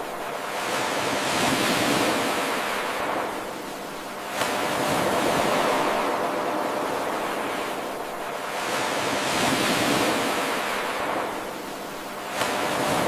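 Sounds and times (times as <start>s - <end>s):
ocean waves washing in: 0.0s - 13.0s.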